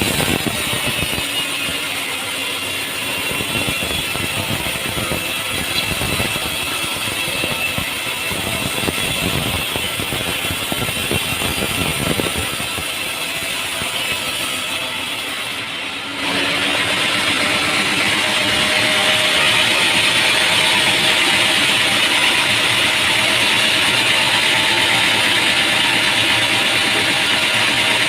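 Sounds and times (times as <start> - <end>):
machinery engine running: 0.0 - 14.3, 16.0 - 28.0.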